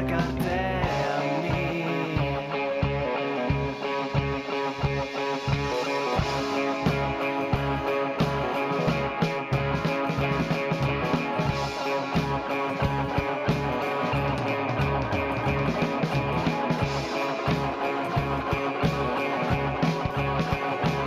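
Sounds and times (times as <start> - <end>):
bass: 0.0 - 21.0
drums with steady beat: 0.0 - 21.0
guitar: 0.0 - 21.0
rock band playing: 0.0 - 21.0.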